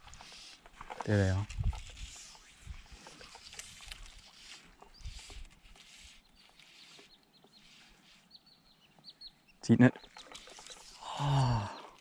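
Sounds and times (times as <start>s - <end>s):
small bird chirping: 2.0s - 12.0s.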